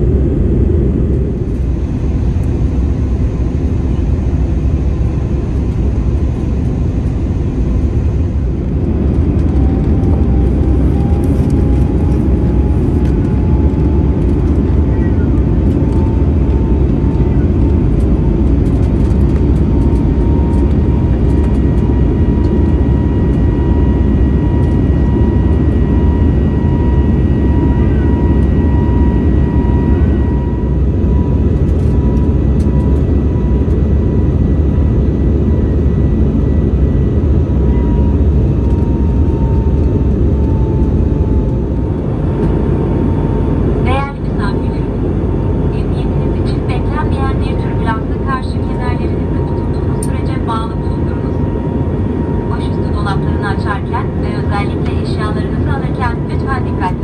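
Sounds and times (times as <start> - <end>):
airplane cabin rumble: 0.0 - 57.0
thin wavering whine: 0.0 - 57.0.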